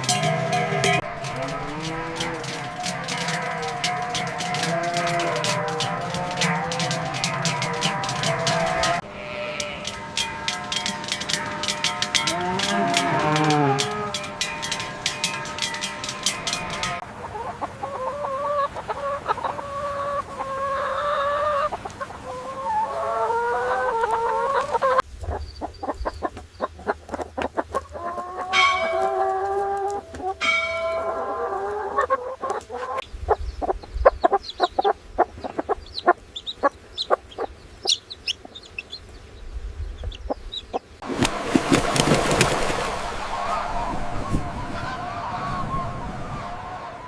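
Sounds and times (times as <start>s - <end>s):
chicken rising calls: 0.0s - 26.0s, 26.8s - 39.0s, 40.3s - 47.0s
chickens clucking: 0.0s - 47.0s.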